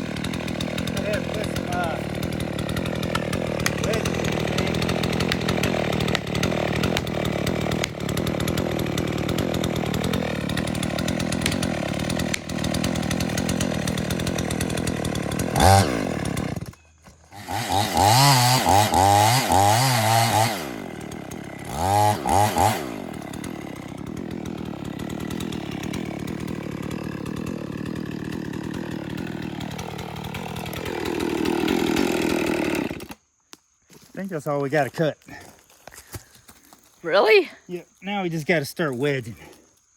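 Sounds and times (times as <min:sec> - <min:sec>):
chainsaw cutting wood: 0:00.0 - 0:33.3.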